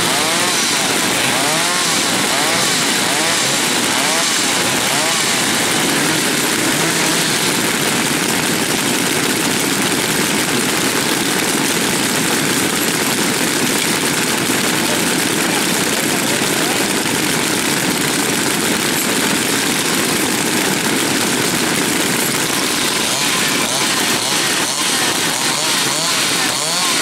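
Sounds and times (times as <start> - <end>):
chainsaws idling: 0.0 - 27.0.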